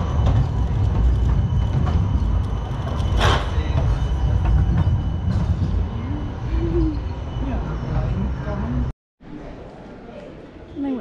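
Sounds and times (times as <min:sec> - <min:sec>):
tram rumbling on rails: 0:00.0 - 0:08.9.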